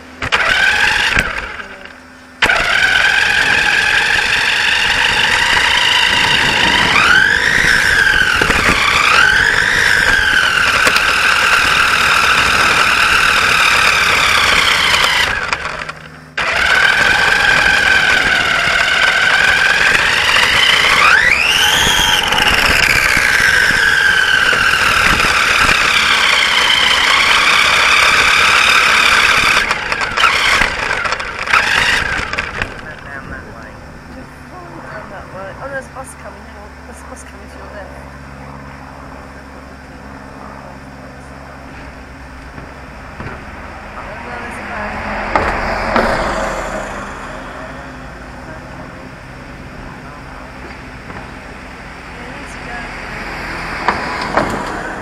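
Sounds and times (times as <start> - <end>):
rc car motor whine: 0.0 - 55.0.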